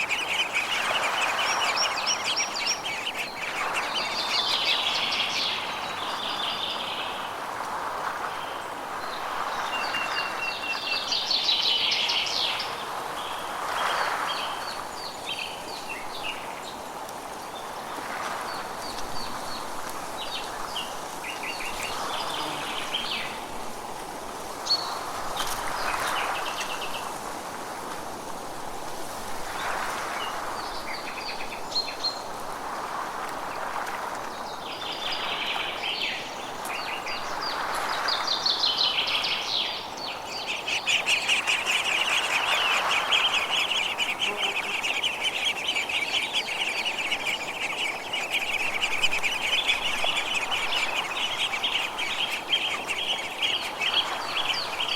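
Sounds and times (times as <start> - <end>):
forest birds chirping: 0.0 - 7.4, 8.3 - 23.7, 33.5 - 54.9.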